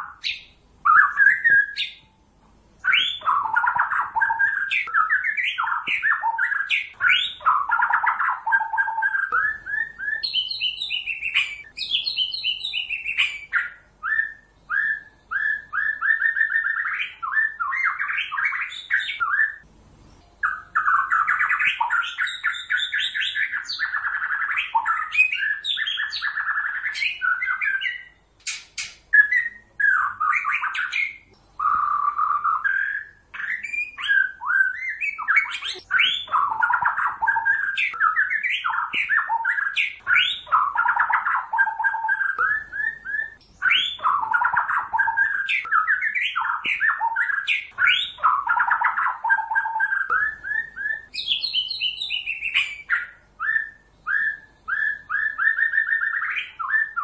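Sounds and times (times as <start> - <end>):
bird singing whistles and chatter: 0.0 - 2.1, 2.8 - 19.6, 20.4 - 57.0.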